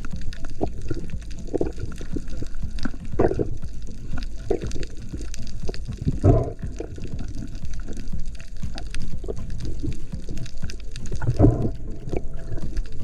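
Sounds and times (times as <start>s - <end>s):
small crackling clicks: 0.0s - 13.0s
water gurgling: 0.0s - 13.0s.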